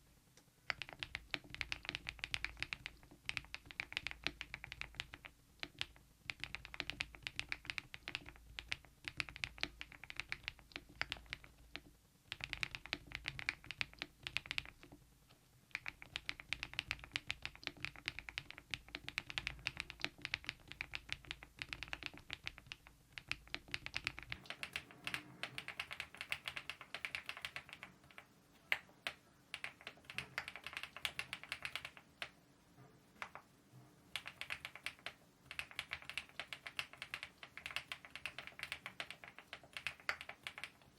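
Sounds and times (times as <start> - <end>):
typing on mechanical keyboard: 0.7 - 15.0, 15.7 - 32.4, 33.2 - 33.5, 34.1 - 40.9.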